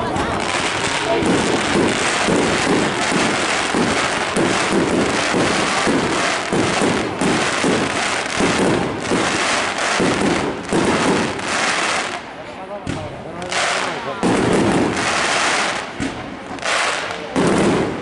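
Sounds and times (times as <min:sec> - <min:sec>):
fireworks bangs: 0:00.0 - 0:18.0
fireworks crackling: 0:00.0 - 0:18.0.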